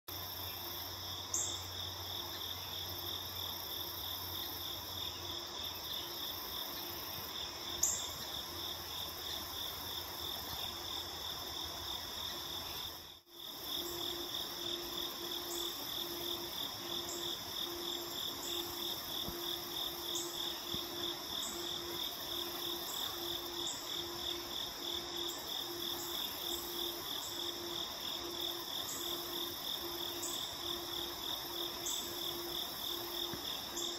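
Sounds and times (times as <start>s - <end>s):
crickets trilling: 0.1s - 33.9s
insect drone: 0.1s - 33.9s.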